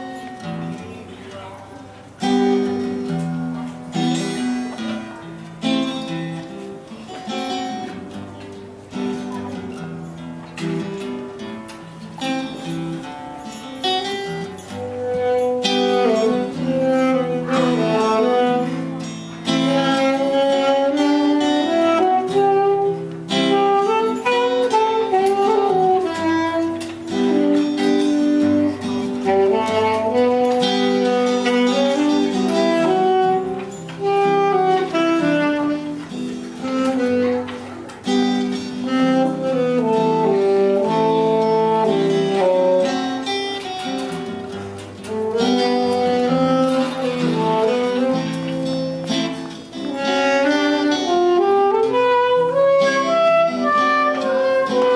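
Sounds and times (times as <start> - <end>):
live instrumental music: 0.0 - 54.9.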